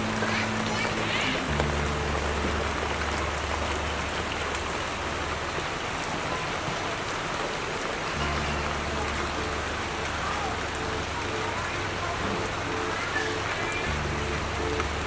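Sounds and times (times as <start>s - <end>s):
low steady hum: 0.0s - 6.5s, 7.4s - 15.0s
heavy rain falling: 0.0s - 15.0s.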